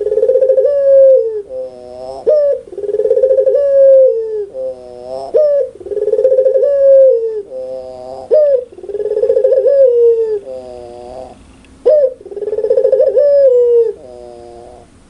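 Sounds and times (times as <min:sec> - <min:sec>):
dove calling: 0:00.0 - 0:15.0.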